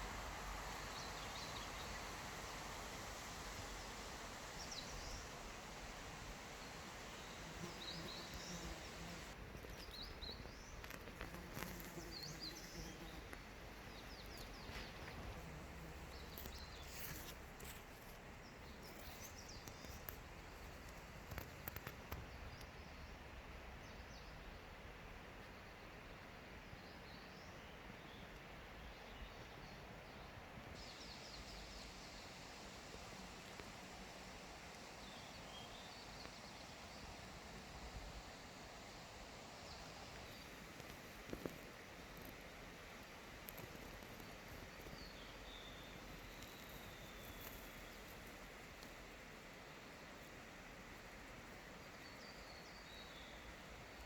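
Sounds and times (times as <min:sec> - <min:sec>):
steady low hiss: 0:00.0 - 0:54.0.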